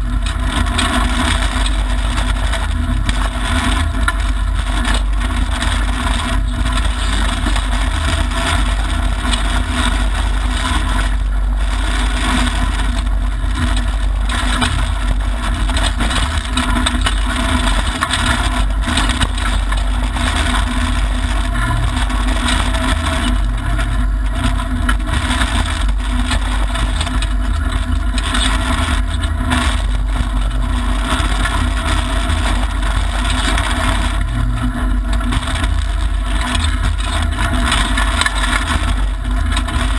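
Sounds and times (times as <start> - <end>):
car engine running: 0.0 - 39.9
tyre and road noise rumble: 0.0 - 39.9.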